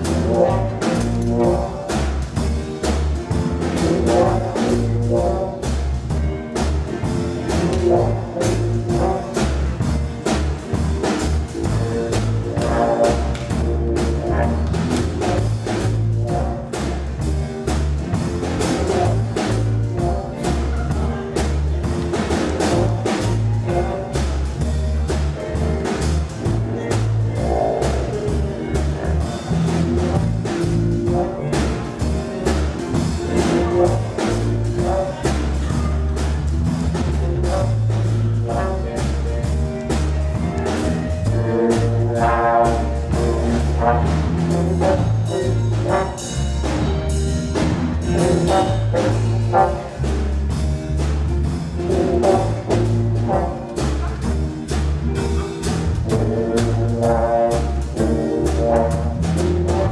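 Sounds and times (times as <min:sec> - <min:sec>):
big band playing jazz: 0:00.0 - 0:59.9
brass phrase: 0:00.0 - 0:59.9.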